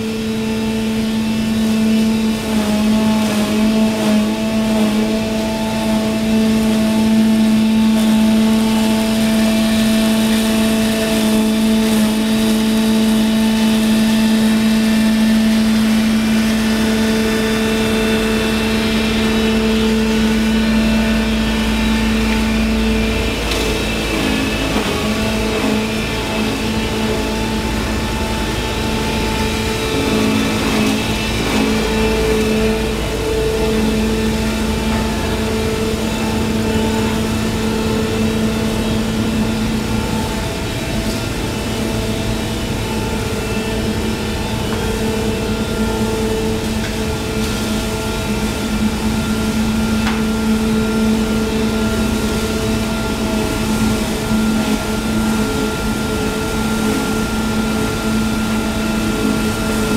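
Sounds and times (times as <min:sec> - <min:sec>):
machine hum over low rumble: 0:00.0 - 0:59.9.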